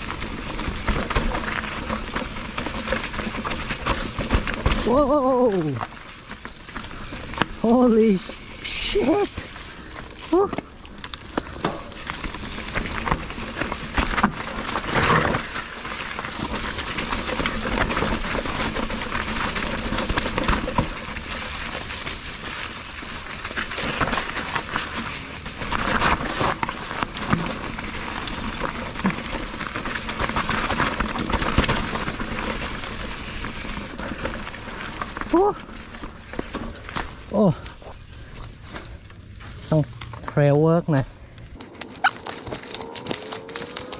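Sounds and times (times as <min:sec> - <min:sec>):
bike rattling: 0:00.0 - 0:43.9
bike tyres rolling over dirt: 0:00.0 - 0:43.9.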